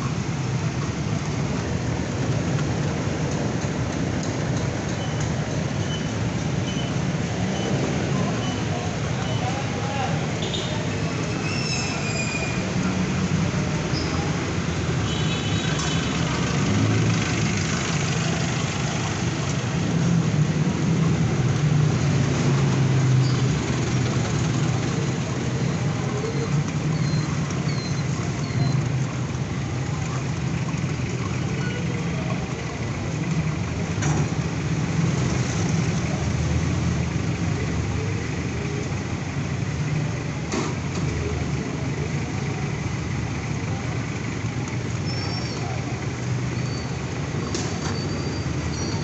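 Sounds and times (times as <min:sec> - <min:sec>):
vehicle engines idling: 0:00.0 - 0:49.0.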